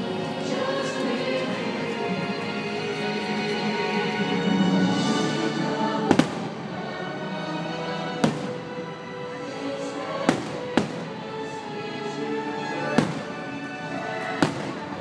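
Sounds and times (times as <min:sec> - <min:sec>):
fireworks show music: 0:00.0 - 0:15.0.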